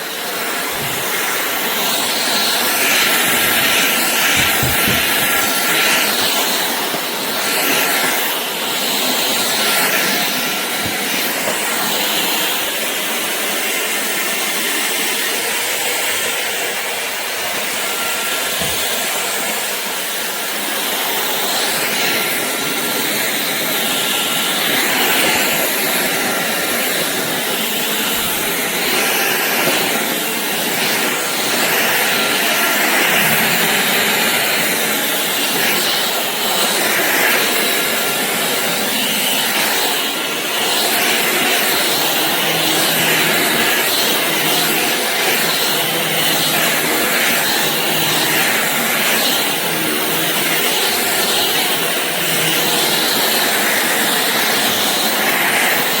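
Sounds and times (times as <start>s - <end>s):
stick vacuum running: 0.0s - 56.0s.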